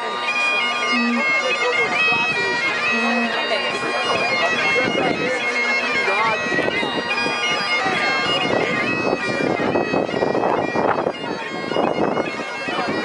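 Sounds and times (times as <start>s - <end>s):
crowd chatter: 0.0s - 13.0s
droning wind instrument: 0.0s - 13.0s.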